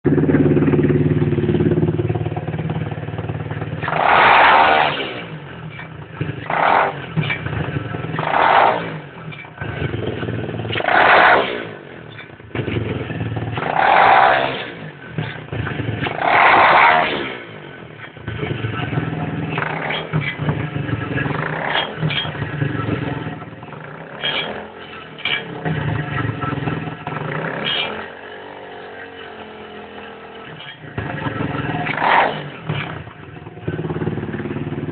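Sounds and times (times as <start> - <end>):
motorbike engine revving: 0.0 - 34.9
engine grinding rattle: 0.1 - 34.9.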